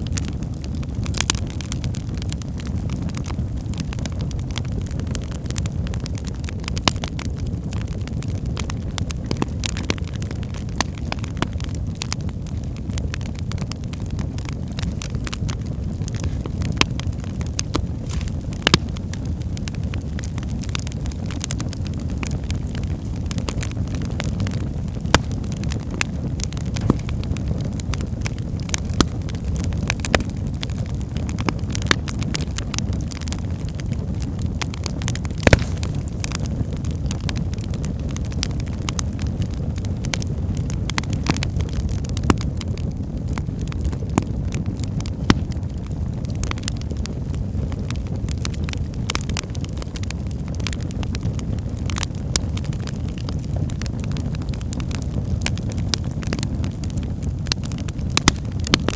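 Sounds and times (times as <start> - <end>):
fire flames rumbling: 0.0 - 58.9
logs crackling and popping: 0.0 - 58.9.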